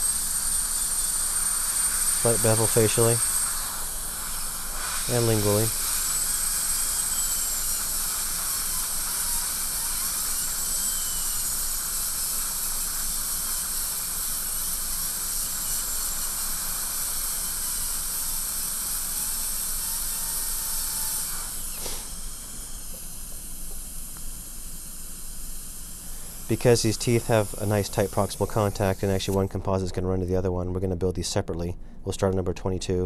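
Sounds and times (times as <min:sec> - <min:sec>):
dental drill whining: 0:00.0 - 0:29.5.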